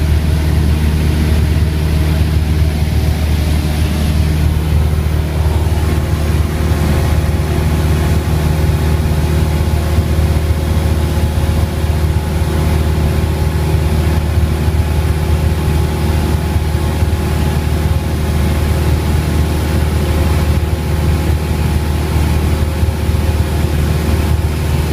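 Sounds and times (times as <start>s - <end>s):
airplane engine and propeller drone: 0.0s - 24.9s.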